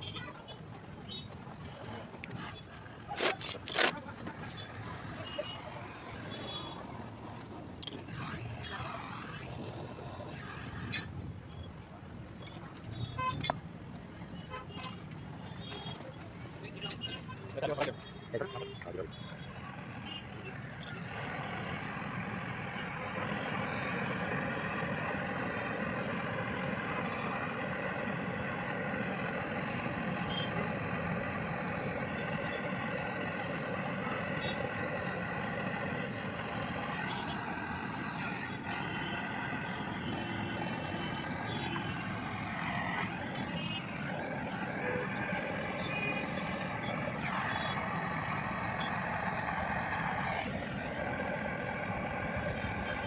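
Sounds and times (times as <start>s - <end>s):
gas torch roaring: 2.0s - 11.3s, 19.4s - 53.0s.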